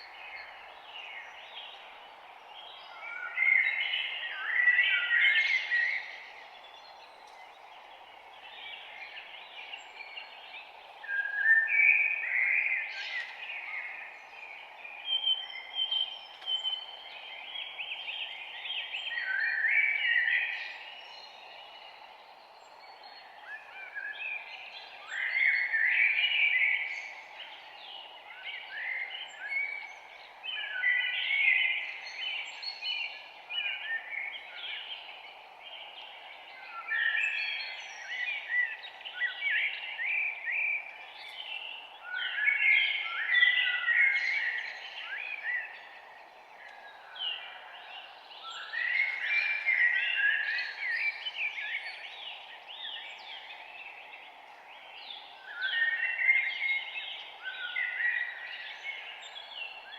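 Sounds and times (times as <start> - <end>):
faint background hiss: 0.0 - 59.9
songbirds chirping: 0.0 - 59.9.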